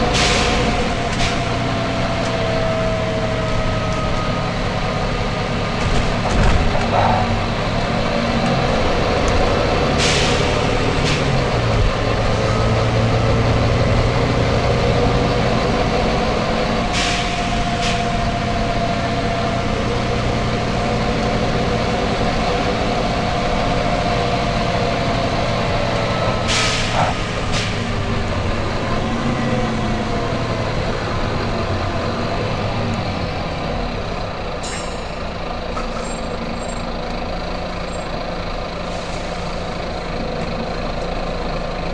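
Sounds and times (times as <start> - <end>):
diesel bus engine running: 0.0 - 41.9.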